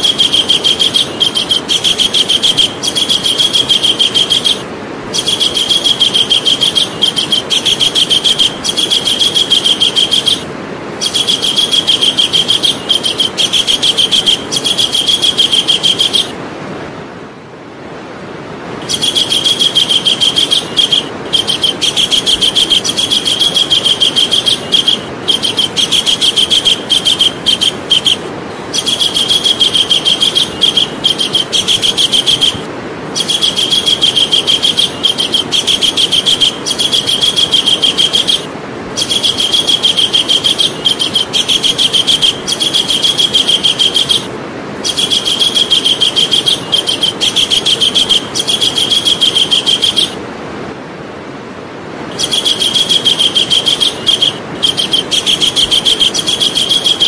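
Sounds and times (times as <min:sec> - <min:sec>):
kingfisher chattering call: 0:00.0 - 0:16.4, 0:18.8 - 0:50.2, 0:52.1 - 0:57.0
steady background hiss: 0:00.0 - 0:57.0.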